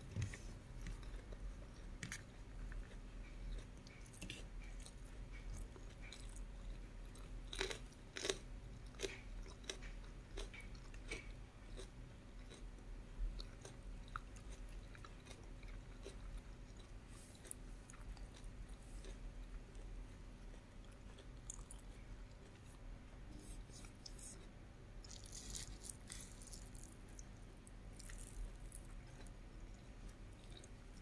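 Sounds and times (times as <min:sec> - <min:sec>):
person chewing food: 0:00.1 - 0:31.0
food crunching: 0:00.8 - 0:12.8, 0:13.4 - 0:22.8, 0:23.4 - 0:31.0.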